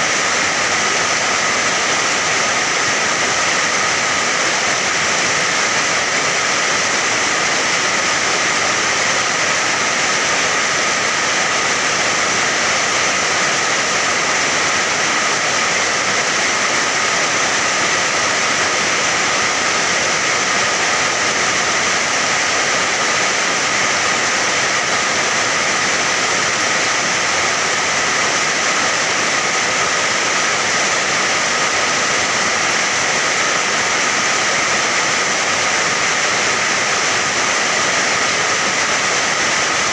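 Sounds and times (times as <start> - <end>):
steady rain falling: 0.1 - 39.9.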